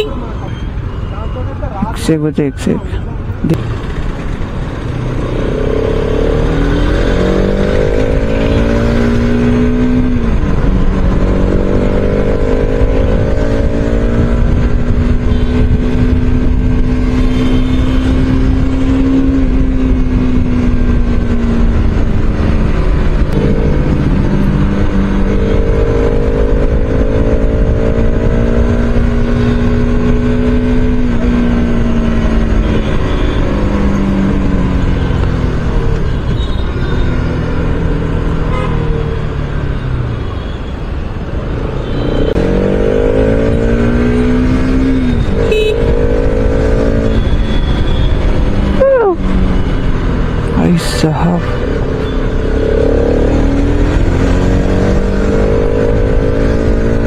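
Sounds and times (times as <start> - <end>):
motorcycle engine accelerating: 3.4 - 36.1, 42.1 - 57.0.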